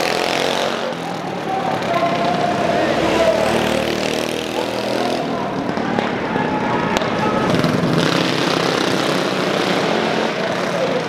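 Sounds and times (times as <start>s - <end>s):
mini bike engines running: 0.0s - 11.0s.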